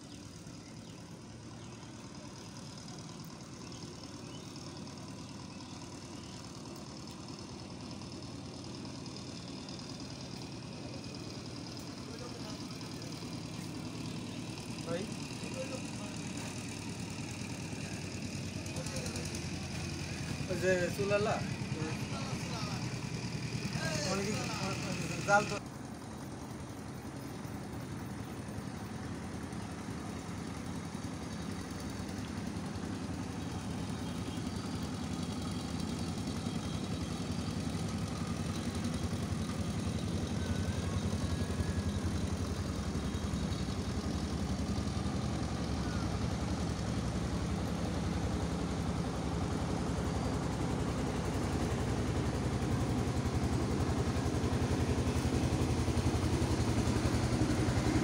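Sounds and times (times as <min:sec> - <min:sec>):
engine running with low hum: 0:00.0 - 0:58.0.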